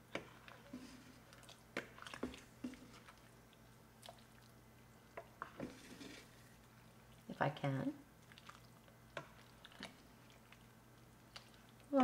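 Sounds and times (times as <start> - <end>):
ladle stirring stew: 0.0 - 7.3, 8.2 - 11.9.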